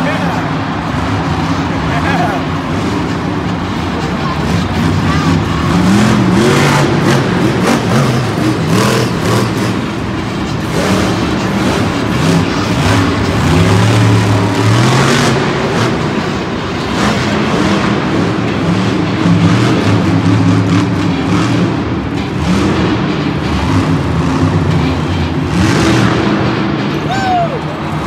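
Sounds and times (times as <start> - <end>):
truck engine revving hard: 0.0 - 28.0.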